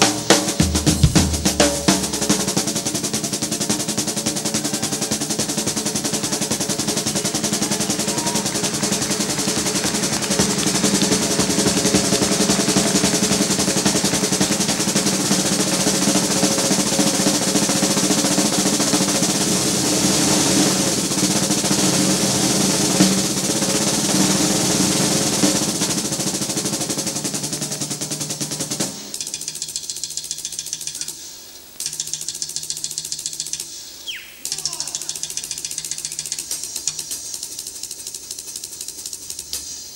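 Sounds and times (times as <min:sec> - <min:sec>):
snare drum roll: 0:00.0 - 0:33.8, 0:34.4 - 0:39.9.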